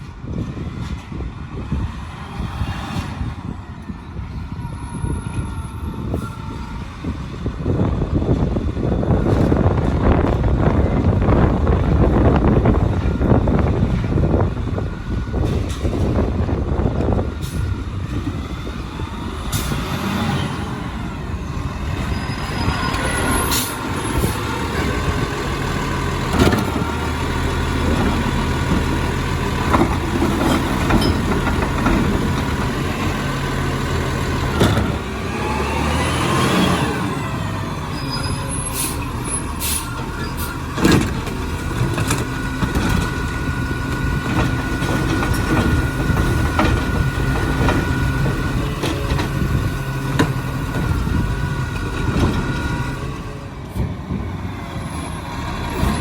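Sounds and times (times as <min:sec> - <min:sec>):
garbage truck engine drone: 0:00.0 - 0:56.0.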